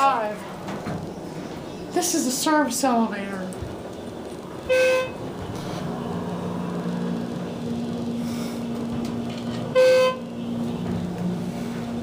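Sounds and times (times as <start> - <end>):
elevator pump motor hum: 0.0 - 12.0.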